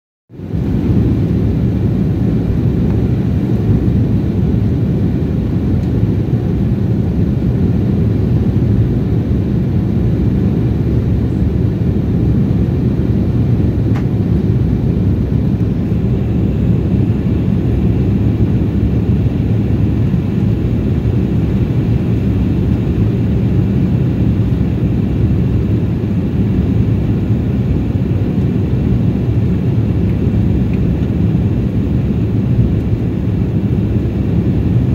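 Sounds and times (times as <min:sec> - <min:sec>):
jet engines rumbling: 0:00.3 - 0:34.9
rushing airflow: 0:00.4 - 0:34.9.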